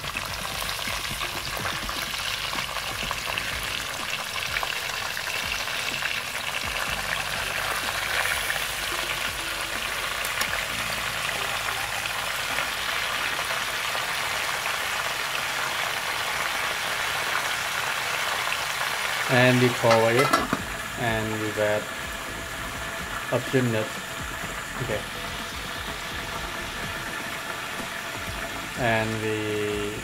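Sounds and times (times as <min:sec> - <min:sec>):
oil sizzling in a pot: 0:00.0 - 0:30.0.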